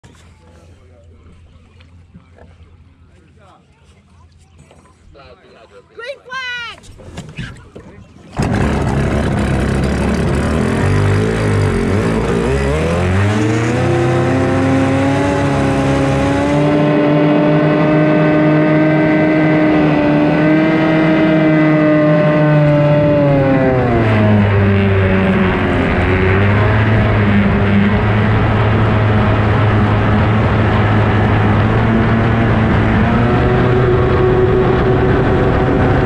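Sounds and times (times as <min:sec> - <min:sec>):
racing boat outboard engine: 0:00.0 - 0:05.9, 0:06.8 - 0:36.0.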